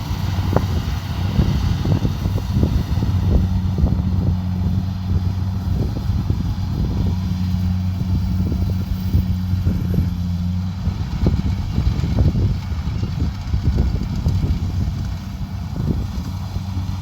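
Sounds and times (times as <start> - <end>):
combine harvester diesel engine drone: 0.0 - 17.0.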